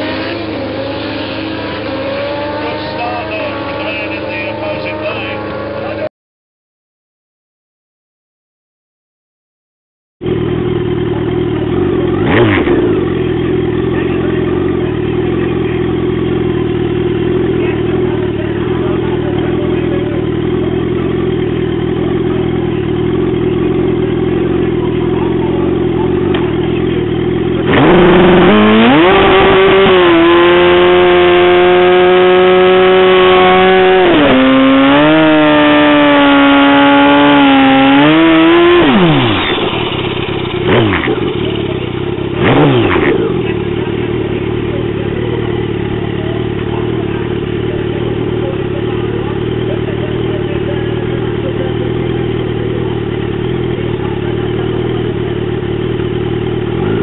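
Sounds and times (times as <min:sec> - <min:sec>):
motorcycle engine revving high: 0:00.0 - 0:06.1, 0:10.2 - 0:57.0
motorcycle engine idling: 0:10.2 - 0:57.0.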